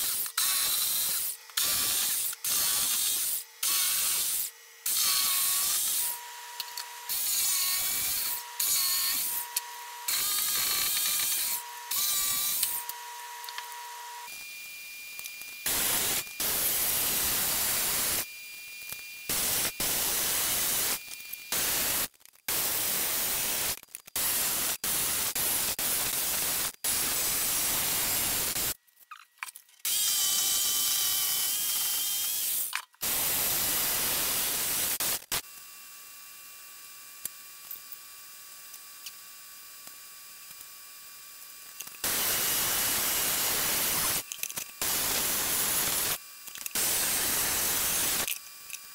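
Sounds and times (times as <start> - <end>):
jigsaw cutting wood: 0.0 - 28.8, 29.8 - 33.3, 42.0 - 48.9.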